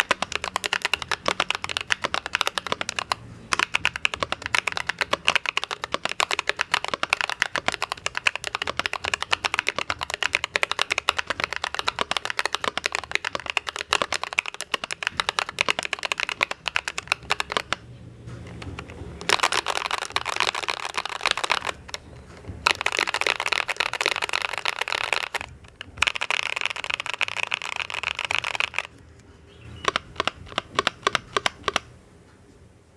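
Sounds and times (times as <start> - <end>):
mechanical keyboard typing: 0.0 - 32.0.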